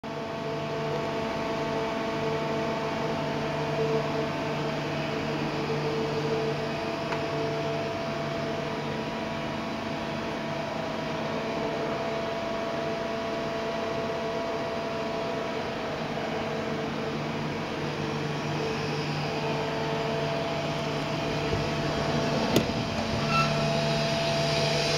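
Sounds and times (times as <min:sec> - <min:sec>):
idling machinery hum: 0:00.4 - 0:24.9.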